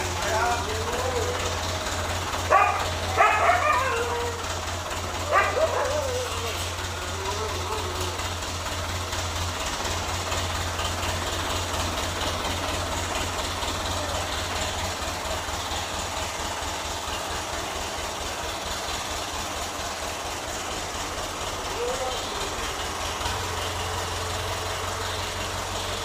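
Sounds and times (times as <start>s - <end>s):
tractor diesel engine rumbling: 0.0s - 26.0s.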